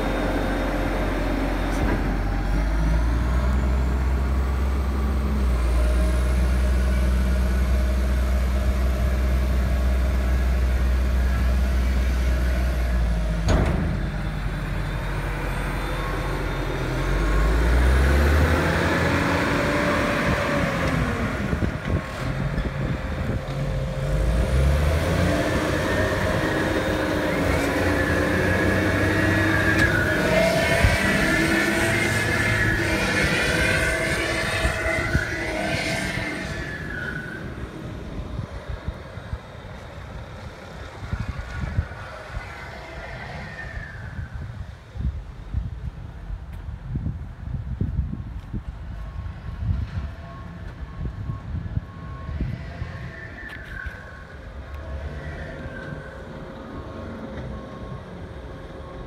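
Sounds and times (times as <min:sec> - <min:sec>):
diesel truck engine passing: 0:00.0 - 0:45.6, 0:49.2 - 0:59.0.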